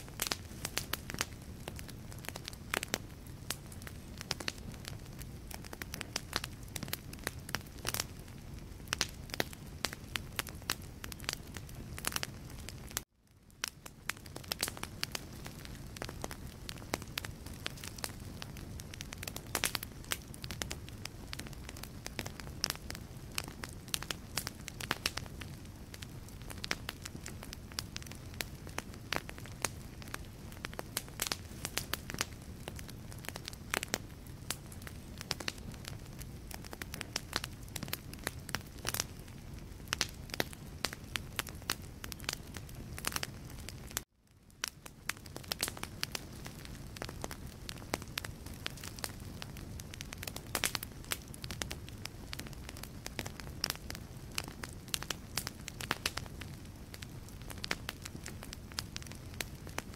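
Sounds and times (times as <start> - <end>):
fire flames rumbling: 0.0 - 59.9
logs crackling and popping: 0.0 - 59.9.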